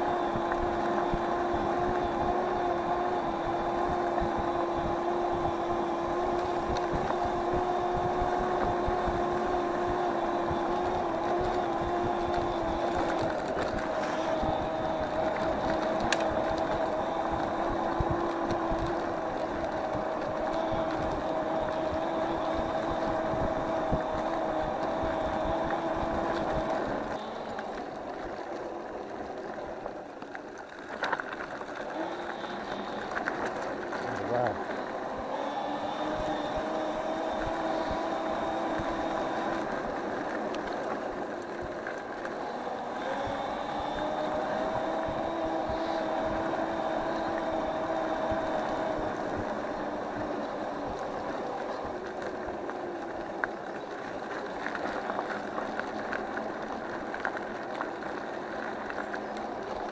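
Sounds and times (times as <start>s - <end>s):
electric scooter motor whining: 0.0s - 59.9s
tyre and wind noise: 0.0s - 59.9s.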